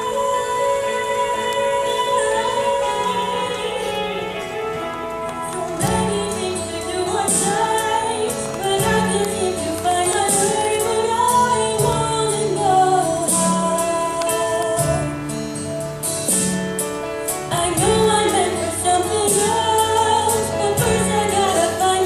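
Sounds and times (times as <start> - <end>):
woman singing slow melody: 0.0 - 15.7, 17.5 - 22.0.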